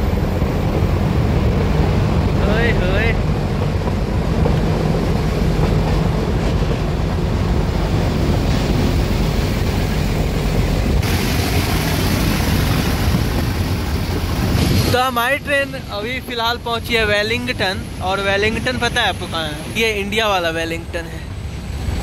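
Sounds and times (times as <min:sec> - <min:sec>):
wind buffeting microphone: 0:00.0 - 0:20.1
train carriages rumbling: 0:00.0 - 0:22.0.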